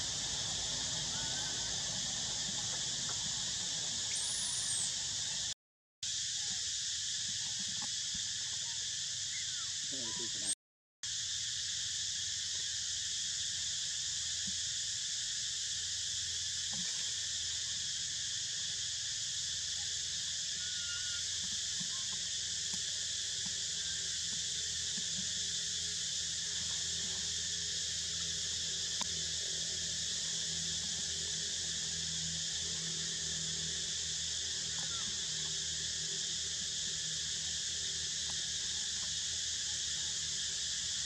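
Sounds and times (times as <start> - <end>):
insects buzzing chorus: 0.0 - 41.0.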